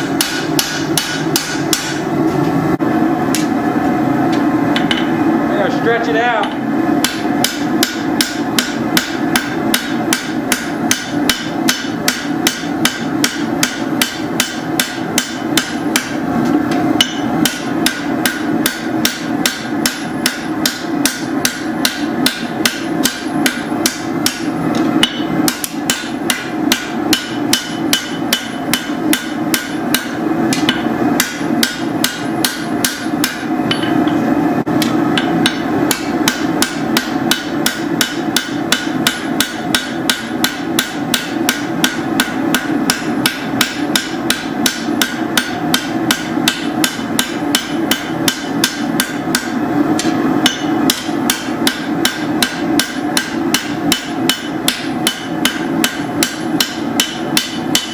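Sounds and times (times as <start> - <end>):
hammer striking hot steel: 0.0 - 2.1, 4.3 - 5.2, 6.4 - 57.9
steady hum: 0.0 - 57.9.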